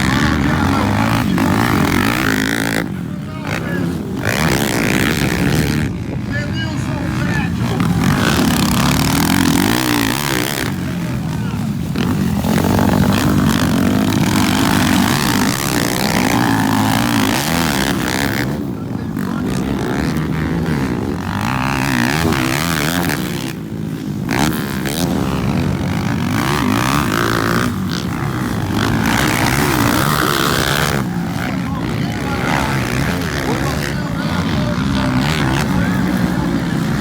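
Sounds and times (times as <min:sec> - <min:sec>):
motorcycle engines racing: 0:00.0 - 0:37.0.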